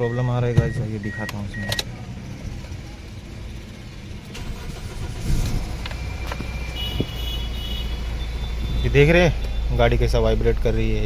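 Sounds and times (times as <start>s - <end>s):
car engine misfiring: 0.0s - 11.0s.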